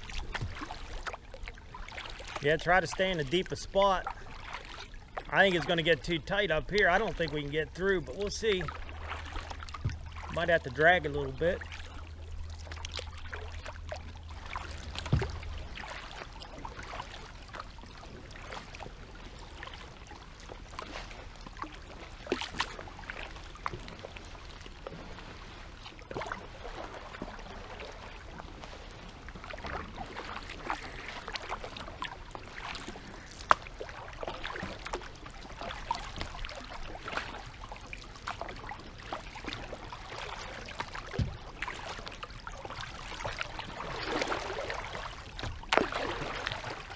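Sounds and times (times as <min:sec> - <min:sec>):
paddles splashing in water: 0:00.0 - 0:46.9.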